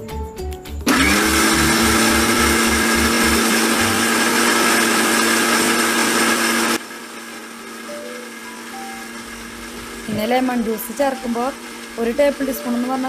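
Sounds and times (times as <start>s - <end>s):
mixer grinder motor whining: 0.8s - 13.0s.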